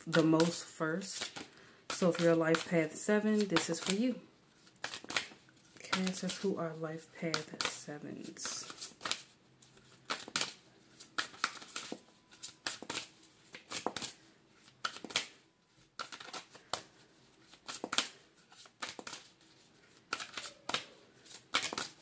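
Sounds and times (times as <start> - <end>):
cards being shuffled: 0.0 - 22.0.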